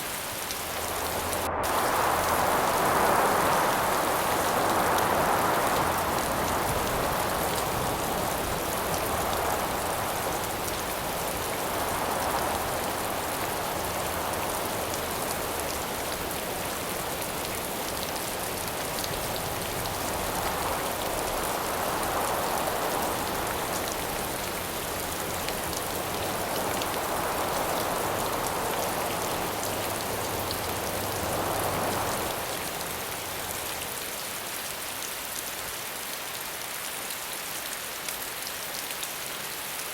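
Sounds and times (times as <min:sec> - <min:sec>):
howling wind: 0:00.0 - 0:34.5
steady rain falling: 0:00.0 - 0:39.9.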